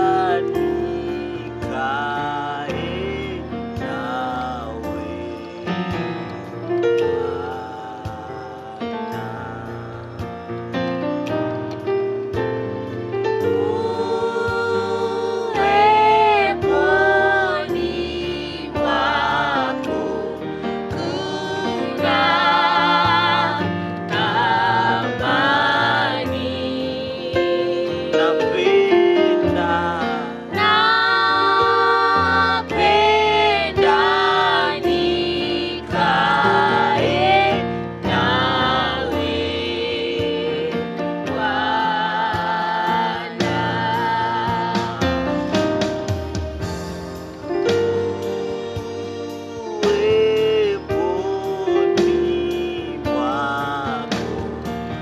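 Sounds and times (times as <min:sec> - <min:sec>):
gospel song with voices singing: 0:00.0 - 0:55.0.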